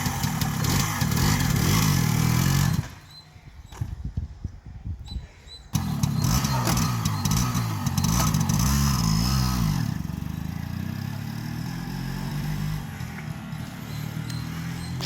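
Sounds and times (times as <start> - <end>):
two-stroke engine revving: 0.0 - 3.0, 5.7 - 15.0.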